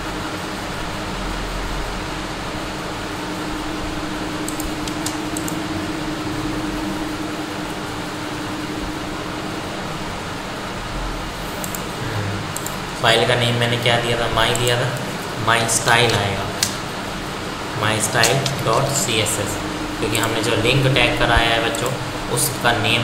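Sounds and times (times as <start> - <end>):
fan-like room hiss and hum: 0.0 - 23.0.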